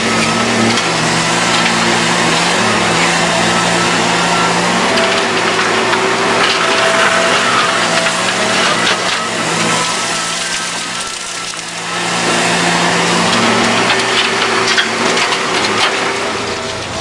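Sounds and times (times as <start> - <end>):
excavator diesel engine revving: 0.0 - 17.0.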